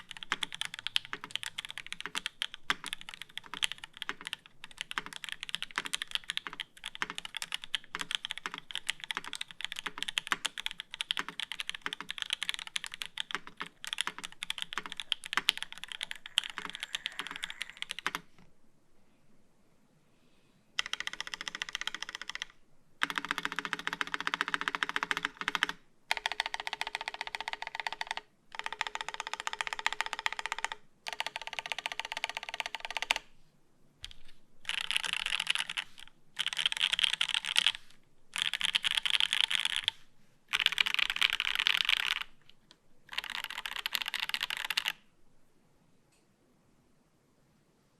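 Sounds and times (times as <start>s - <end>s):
mechanical keyboard typing: 0.0s - 18.3s, 20.8s - 33.2s, 34.0s - 45.0s.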